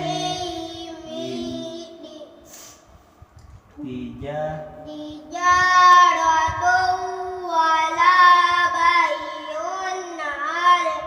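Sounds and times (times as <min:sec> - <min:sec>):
child chanting: 0:00.0 - 0:02.7, 0:04.6 - 0:11.0.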